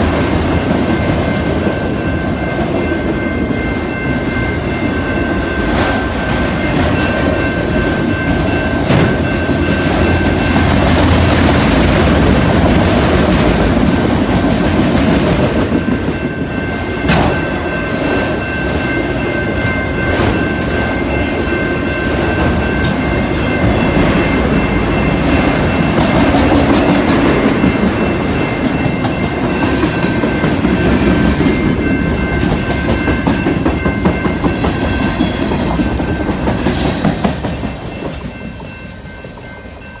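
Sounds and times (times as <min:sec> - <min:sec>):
crossing warning bell ringing: 0:00.0 - 0:40.0.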